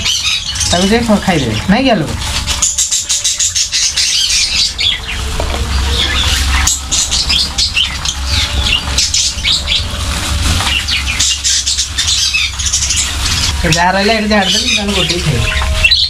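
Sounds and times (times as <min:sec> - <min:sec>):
cage birds chirping and squawking: 0:00.0 - 0:16.0.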